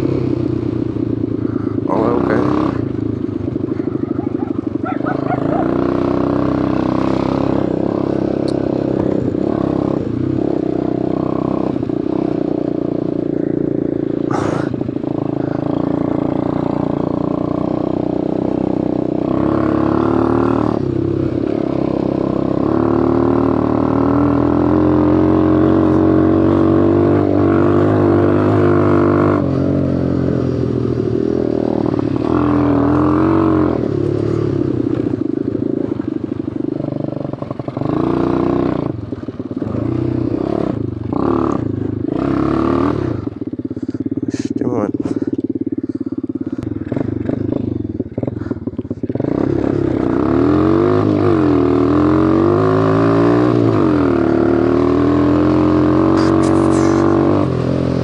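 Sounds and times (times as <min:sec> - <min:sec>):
quad bike engine: 0:00.0 - 0:58.0.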